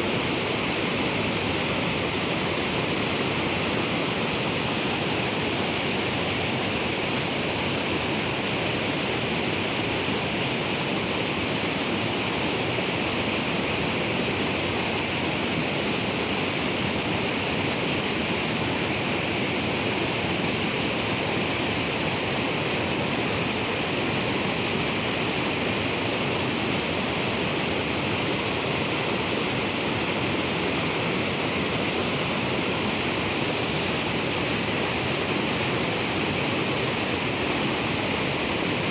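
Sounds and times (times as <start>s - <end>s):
river water rushing: 0.1s - 38.9s.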